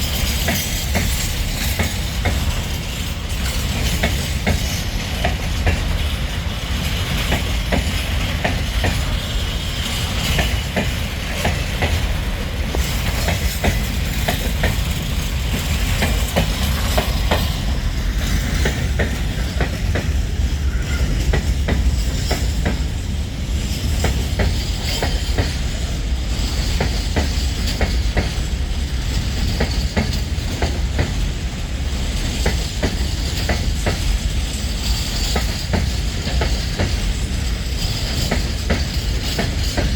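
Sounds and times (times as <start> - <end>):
freight train rumbling: 0.0 - 39.9
wheels clattering on rails: 0.0 - 39.9.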